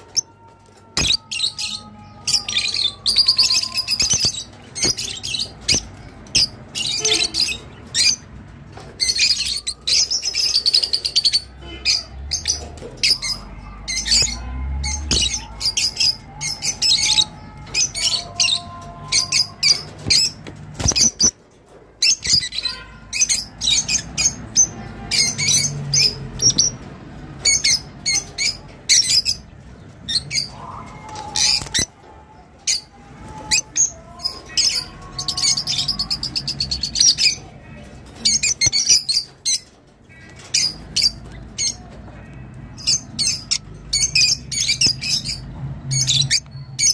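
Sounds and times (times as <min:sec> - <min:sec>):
lovebirds chirping: 0:00.0 - 0:46.9.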